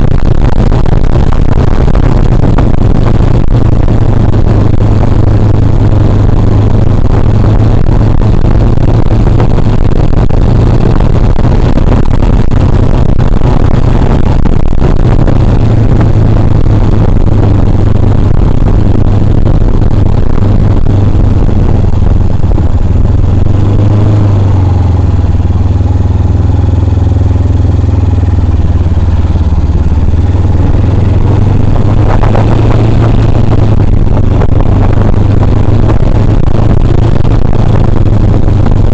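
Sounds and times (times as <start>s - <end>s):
motorcycle engine running: 0.0s - 38.9s
rushing noise: 0.0s - 38.9s.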